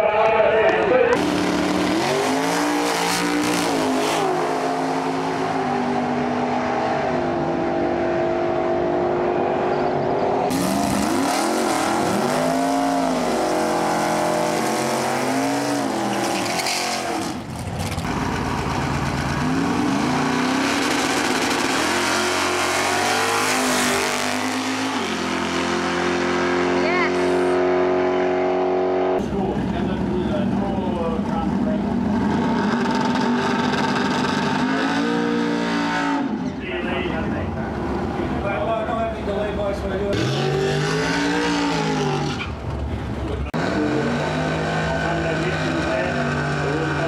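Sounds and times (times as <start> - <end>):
drag car engines revving: 0.0 - 47.0.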